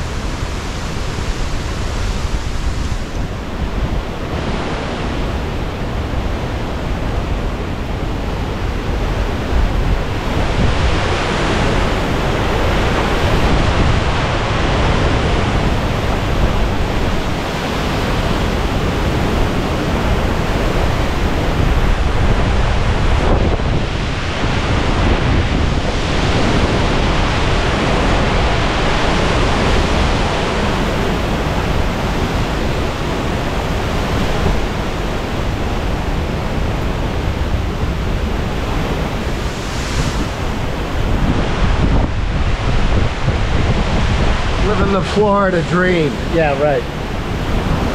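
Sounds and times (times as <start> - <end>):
strong wind rushing: 0.0 - 47.9
wind buffeting microphone: 0.0 - 47.9.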